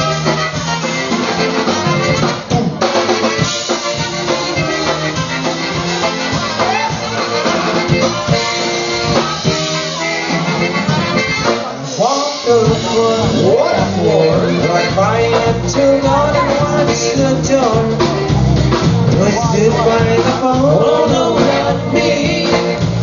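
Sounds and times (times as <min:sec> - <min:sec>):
trumpet: 0:00.0 - 0:17.8, 0:19.2 - 0:23.0
drum kit beat: 0:00.0 - 0:23.0
polka band playing: 0:00.0 - 0:23.0.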